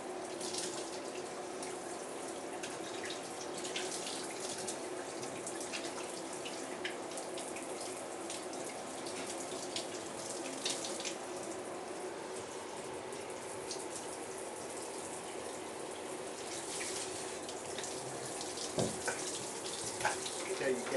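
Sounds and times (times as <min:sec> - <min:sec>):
shower running into bathtub: 0:00.0 - 0:20.9.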